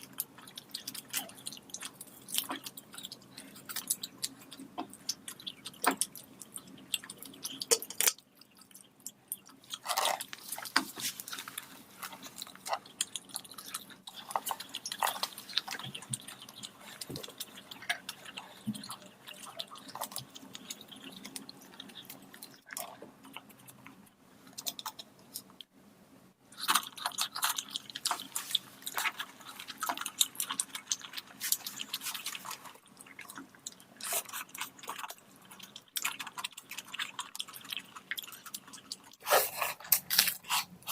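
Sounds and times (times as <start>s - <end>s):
person chewing food: 0.0s - 25.8s, 26.4s - 40.9s.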